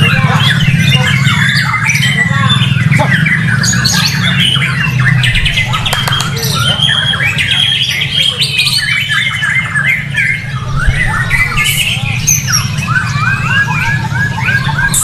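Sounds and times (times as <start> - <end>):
bird singing whistles and trills: 0.0 - 15.0.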